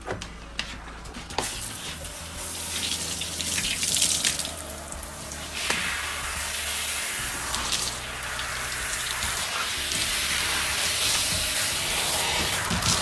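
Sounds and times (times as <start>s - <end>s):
water spraying from hose nozzle: 1.4s - 13.0s.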